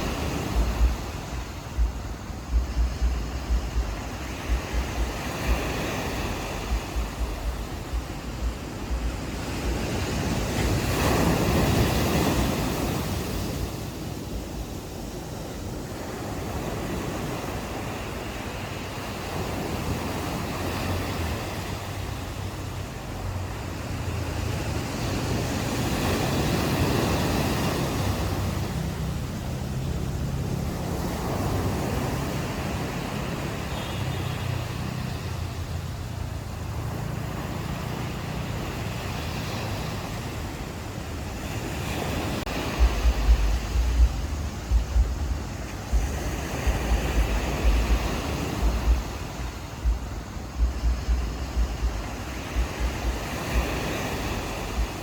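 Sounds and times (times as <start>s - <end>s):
ocean waves washing onto beach: 0.0s - 55.0s
wind buffeting microphone: 0.0s - 55.0s.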